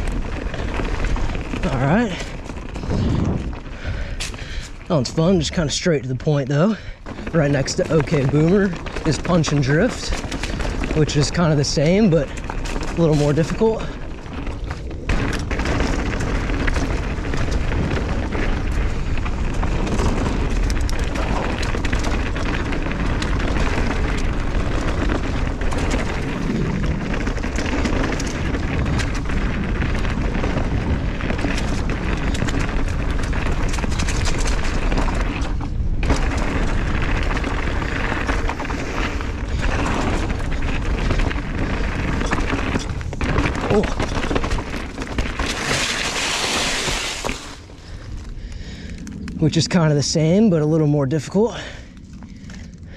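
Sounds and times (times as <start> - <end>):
wind rushing over microphone: 0.0 - 5.7, 7.2 - 52.9
tyres rattling over dirt trail: 0.0 - 52.9.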